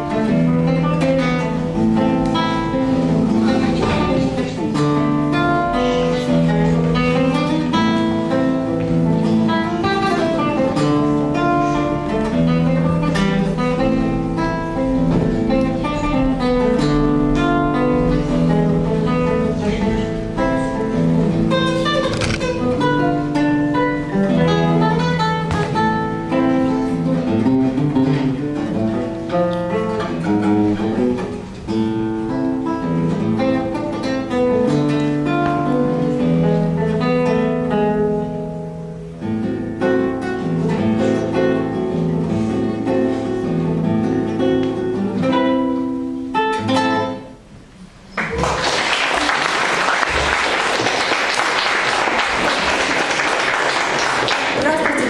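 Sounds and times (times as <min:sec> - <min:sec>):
acoustic guitar plucked melody: 0:00.0 - 0:48.2.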